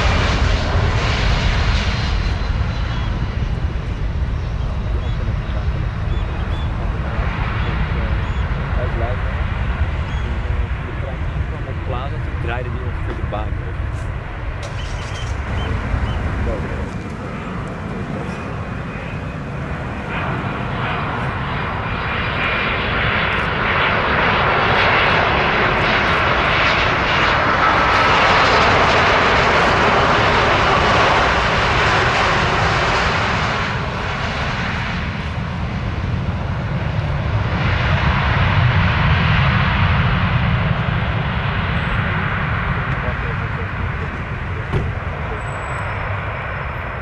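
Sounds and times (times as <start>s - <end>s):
jet engine whine and rush: 0.0s - 47.0s.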